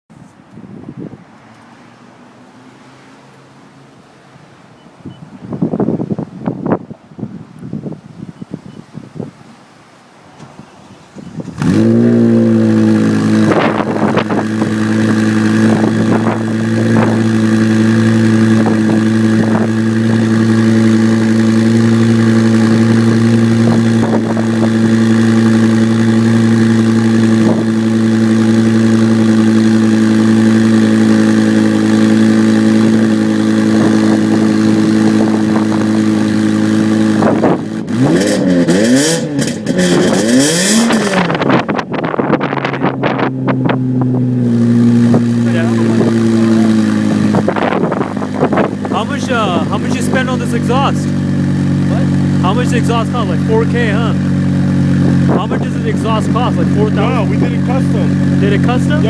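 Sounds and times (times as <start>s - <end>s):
car engine starting and idling: 9.9s - 59.0s
car engine revving: 11.1s - 59.0s.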